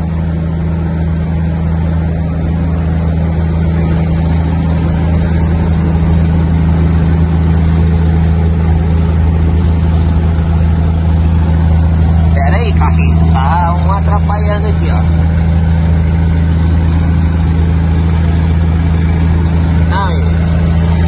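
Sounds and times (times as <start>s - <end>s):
diesel truck engine droning: 0.0s - 21.0s
road noise: 0.0s - 21.0s.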